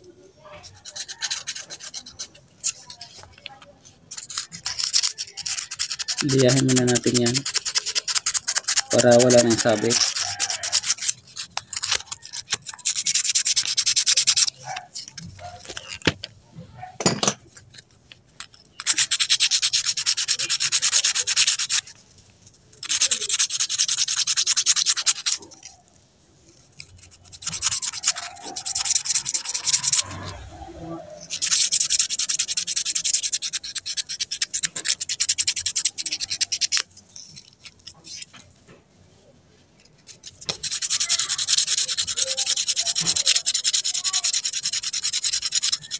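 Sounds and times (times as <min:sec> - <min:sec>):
sandpaper rubbing on metal: 0:00.6 - 0:16.1, 0:17.7 - 0:22.0, 0:22.8 - 0:25.8, 0:26.5 - 0:38.5, 0:39.9 - 0:45.9.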